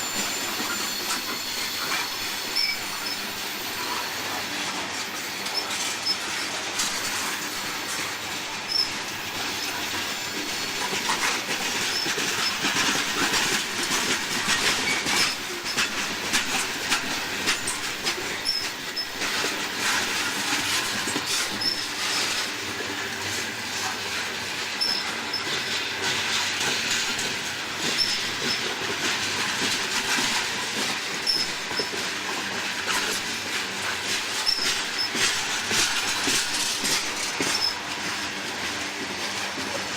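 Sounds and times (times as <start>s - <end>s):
wheels squeaking: 0.0s - 4.6s, 5.3s - 23.3s, 27.8s - 37.9s
train wheels clacking over rail joints: 0.0s - 39.9s.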